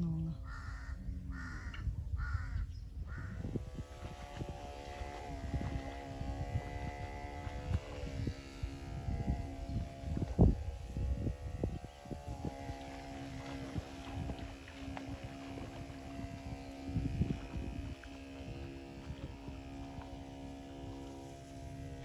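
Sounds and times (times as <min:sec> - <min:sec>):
wind rumble on microphone: 0:00.0 - 0:22.0
small engine running: 0:03.1 - 0:22.0.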